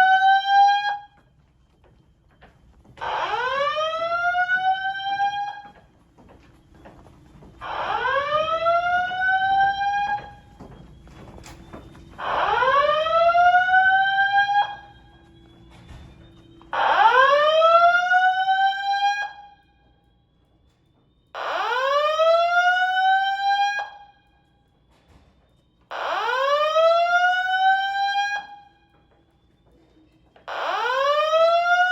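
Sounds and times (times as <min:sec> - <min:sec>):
fire alarm whoop tone: 0:00.0 - 0:31.9.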